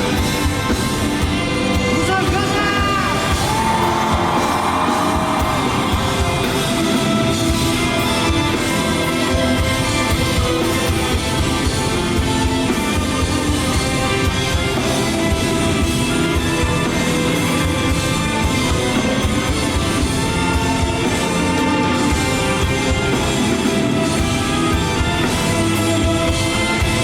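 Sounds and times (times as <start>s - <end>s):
drum kit: 0.0s - 27.0s
electric guitars: 0.0s - 27.0s.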